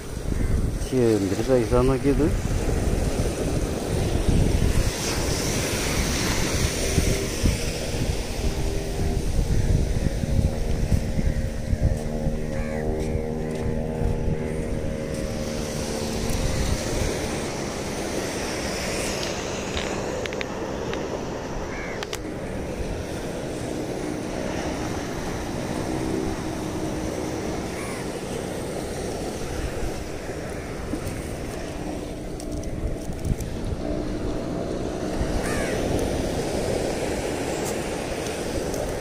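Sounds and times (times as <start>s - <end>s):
distant engine drone: 0.0s - 39.0s
waves: 0.0s - 39.0s
wind: 0.0s - 39.0s.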